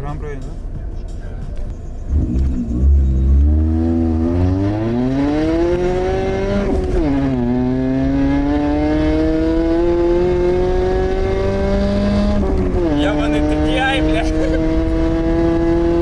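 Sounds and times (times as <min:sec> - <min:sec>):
car engine accelerating: 0:01.4 - 0:16.0.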